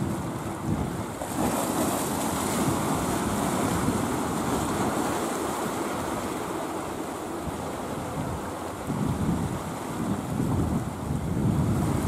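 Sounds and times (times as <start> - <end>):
sea waves rushing: 0.0 - 12.0
wind buffeting microphone: 0.0 - 12.0.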